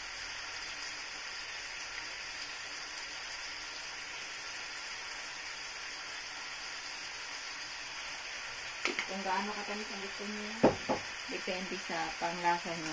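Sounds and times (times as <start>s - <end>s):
chicken sizzling in a frying pan: 0.0s - 12.9s.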